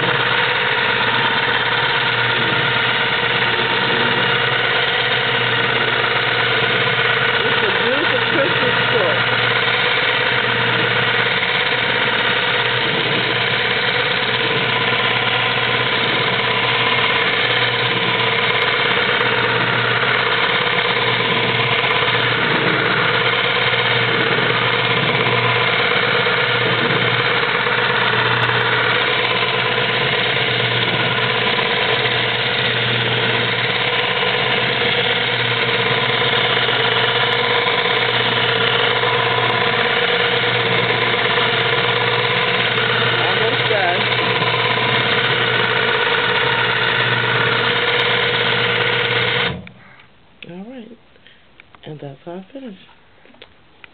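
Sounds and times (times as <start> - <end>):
quilting machine humming: 0.0 - 50.9.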